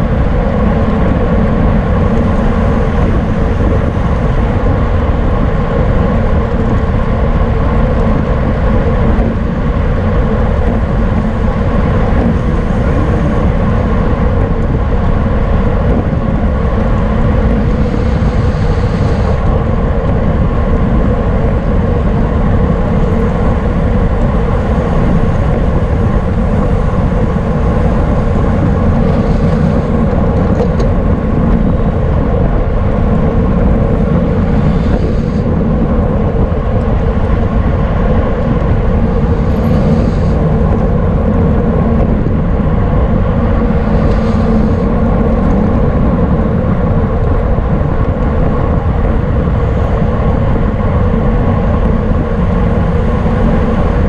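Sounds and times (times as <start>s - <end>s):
bicycle road noise: 0.0s - 54.0s
loud wind rush: 0.0s - 54.0s.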